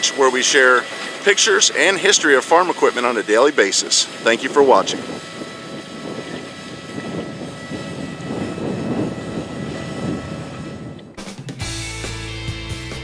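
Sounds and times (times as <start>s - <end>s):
tractor engine running under load: 0.0s - 11.2s
fan humming: 0.0s - 11.8s.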